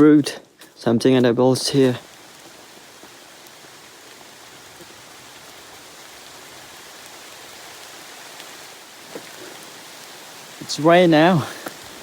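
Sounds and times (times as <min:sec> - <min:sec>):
steady rain: 0:00.0 - 0:12.0
faint raindrop ticks: 0:00.2 - 0:12.0.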